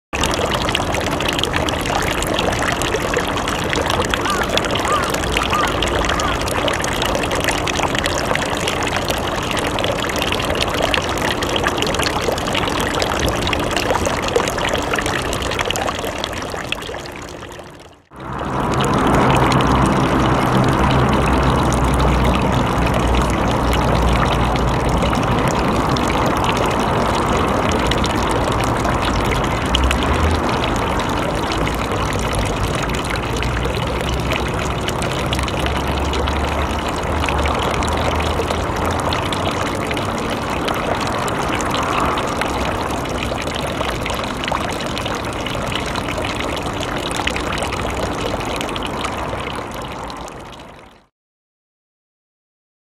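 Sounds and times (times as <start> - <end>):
city traffic rumble: 0.2 - 16.8, 18.1 - 50.7
water stream splashing: 0.2 - 50.7.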